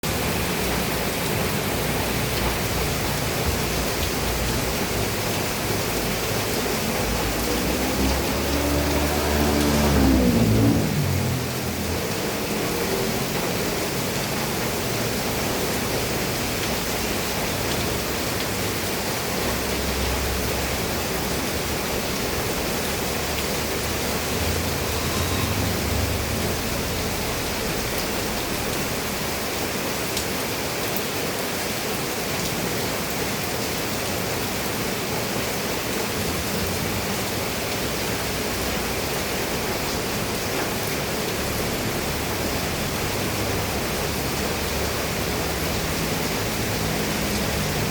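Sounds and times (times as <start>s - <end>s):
rain on a roof: 0.0s - 47.9s.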